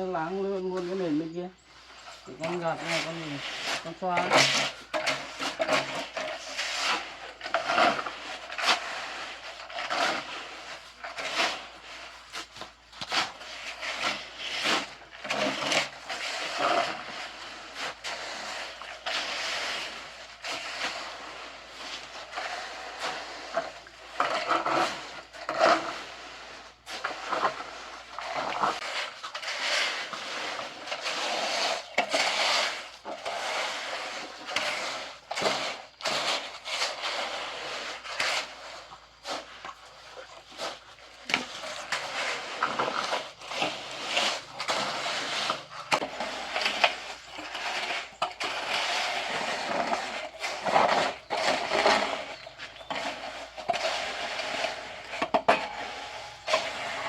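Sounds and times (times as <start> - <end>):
trowel scraping wet concrete: 0.0 - 57.0.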